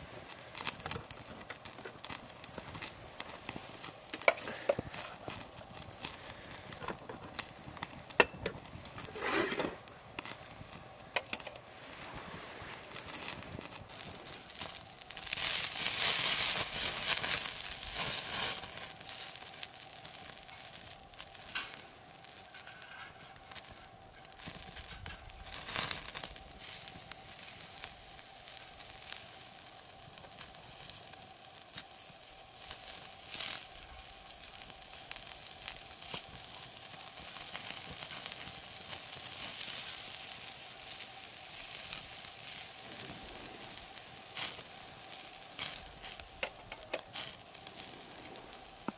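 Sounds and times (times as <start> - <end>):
meat sizzling on a grill: 0.0 - 48.9
pops and crackles: 0.0 - 48.9.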